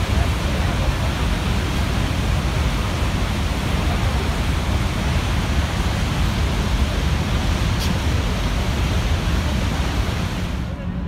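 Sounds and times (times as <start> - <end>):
waterfall rushing: 0.0 - 10.7.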